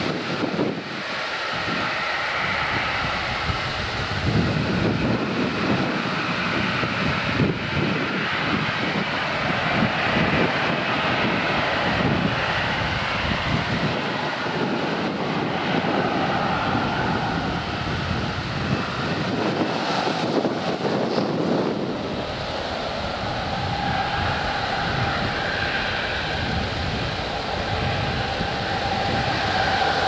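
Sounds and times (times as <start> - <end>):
faint engine whine: 0.0 - 30.0
jet engine rumble: 0.0 - 30.0.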